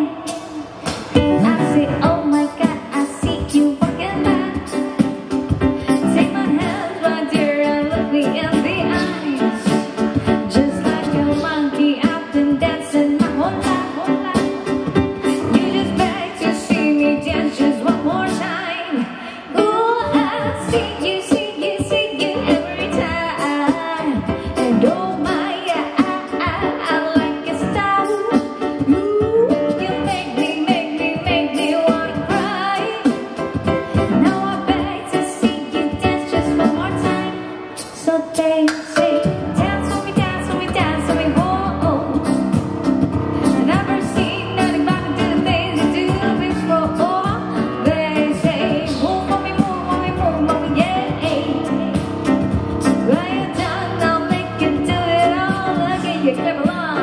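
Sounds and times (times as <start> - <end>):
electric keyboard: 0.0 - 57.0
woman singing into microphone: 0.0 - 57.0.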